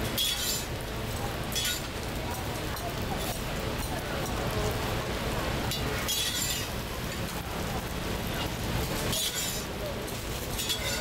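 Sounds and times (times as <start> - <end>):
metal utensils scraping on a griddle: 0.0 - 4.5, 5.7 - 7.4, 8.2 - 11.0.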